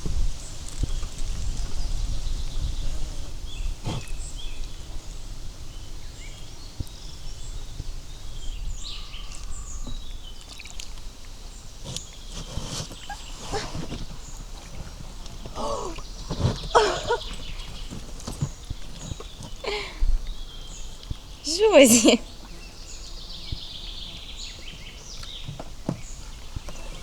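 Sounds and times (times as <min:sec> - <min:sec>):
small birds chirping: 0:00.3 - 0:27.0.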